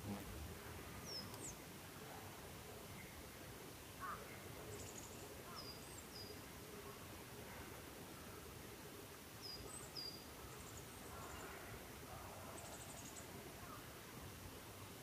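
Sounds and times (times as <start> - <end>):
faint outdoor background: 0.0 - 15.0
wild birds chirping: 0.0 - 15.0.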